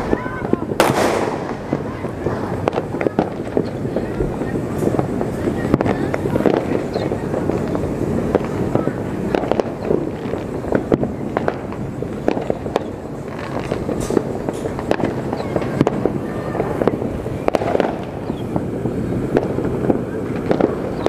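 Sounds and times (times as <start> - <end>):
fireworks bangs and pops: 0.0 - 21.0
steady rumble: 0.0 - 21.0.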